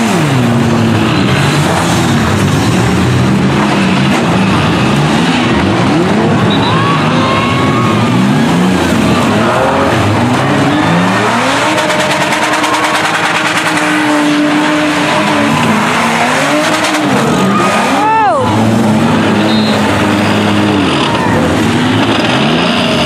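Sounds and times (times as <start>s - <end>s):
minivan engines revving: 0.0s - 23.0s.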